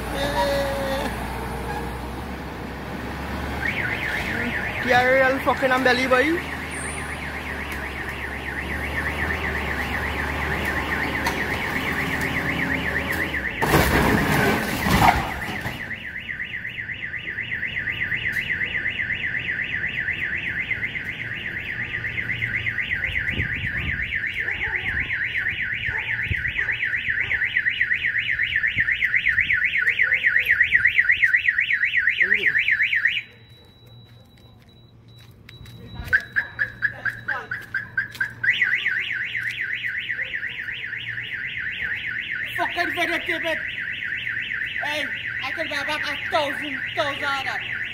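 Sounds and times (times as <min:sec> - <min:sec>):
car alarm siren warbling: 0:03.5 - 0:34.9, 0:35.7 - 0:47.9.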